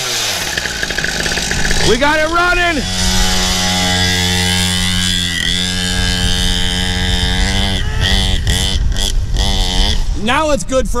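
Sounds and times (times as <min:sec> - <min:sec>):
small motorbike engine revving: 0:00.0 - 0:10.2.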